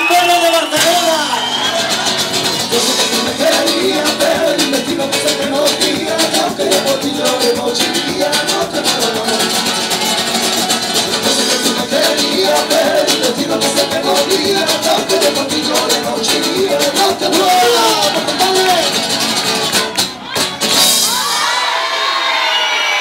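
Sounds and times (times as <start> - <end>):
cajon drumming: 0.0 - 21.3
strummed acoustic guitar: 0.7 - 21.2.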